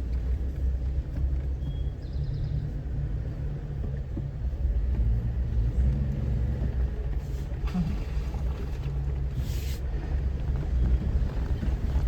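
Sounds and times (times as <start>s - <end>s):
vehicle engine rumbling at low speed: 0.0s - 12.0s.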